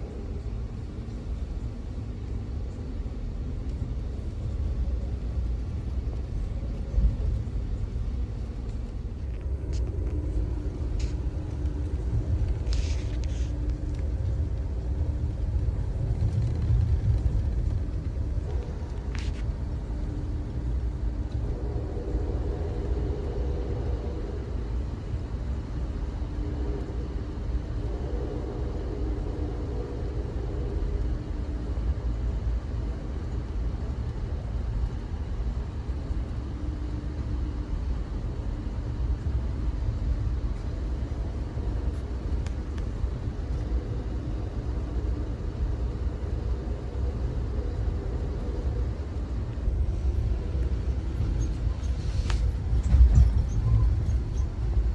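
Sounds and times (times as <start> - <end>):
faint hum: 0.0 - 54.9
train rumbling: 0.0 - 54.9.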